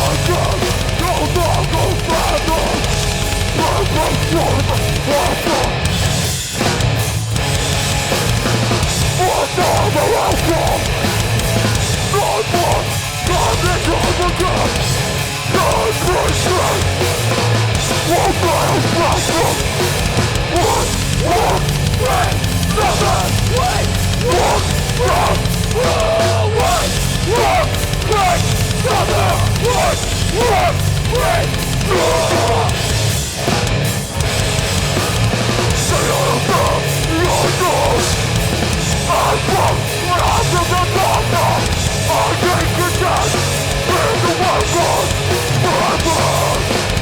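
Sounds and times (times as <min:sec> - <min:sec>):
hardcore band playing live: 0:00.0 - 0:47.0
heavy distorted guitars: 0:00.0 - 0:47.0
pounding drums: 0:00.0 - 0:47.0.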